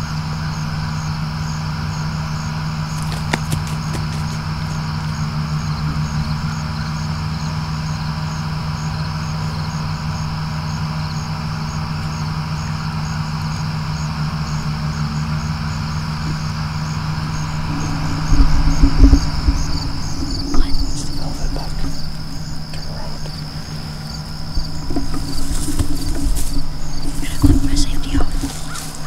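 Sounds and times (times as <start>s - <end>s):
crickets chirping: 0.0s - 29.0s
distant engine hum: 0.0s - 29.0s.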